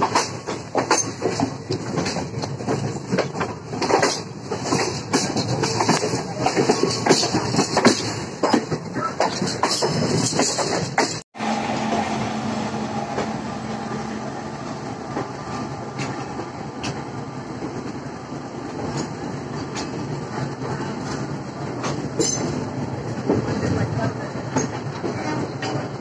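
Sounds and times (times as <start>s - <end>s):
wheels clicking over rail joints: 0.0s - 11.2s, 15.1s - 26.0s
passing train: 0.0s - 26.0s
train rumble: 0.0s - 26.0s.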